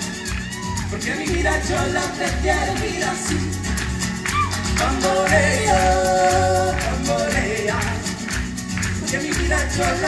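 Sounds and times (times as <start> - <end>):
person singing live: 0.0 - 10.0.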